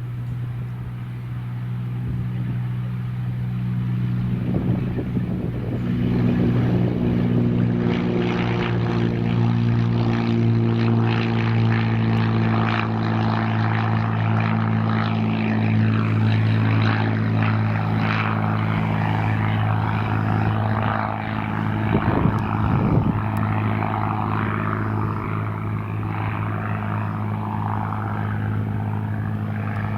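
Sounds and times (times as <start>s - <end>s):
propeller aircraft engine droning: 0.0s - 29.9s.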